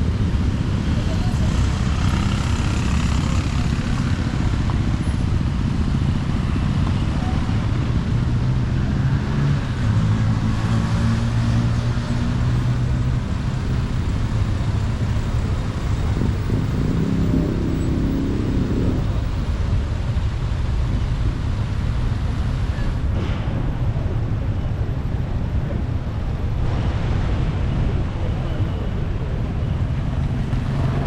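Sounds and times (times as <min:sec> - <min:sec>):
road noise: 0:00.0 - 0:31.0.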